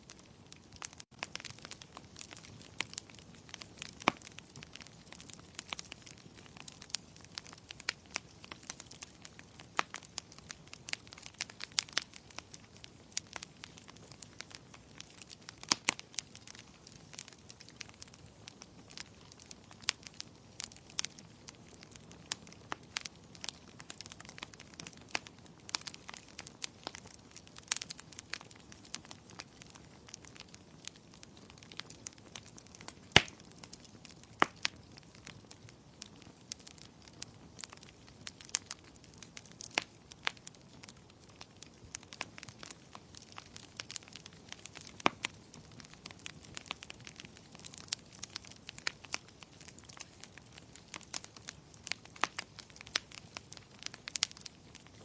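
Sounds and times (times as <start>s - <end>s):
fire popping and snapping: 0.0s - 55.0s
low hiss of burning logs: 0.0s - 55.0s.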